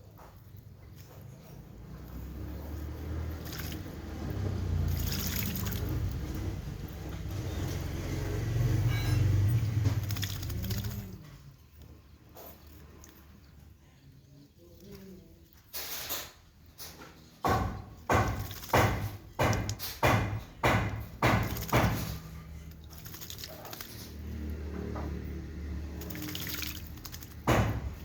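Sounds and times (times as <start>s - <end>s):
bird splashing in water: 1.6s - 13.7s, 14.4s - 16.9s, 17.5s - 28.0s.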